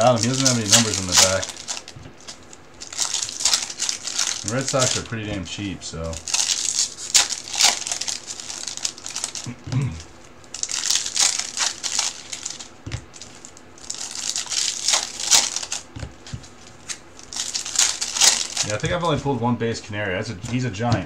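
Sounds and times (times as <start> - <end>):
plastic shrink wrap crinkling: 0.0 - 19.1.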